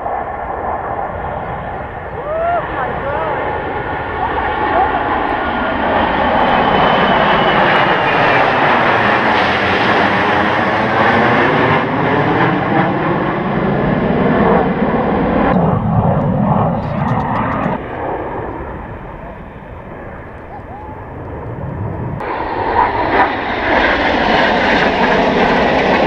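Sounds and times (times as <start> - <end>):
jet engines flying past: 0.0 - 26.0.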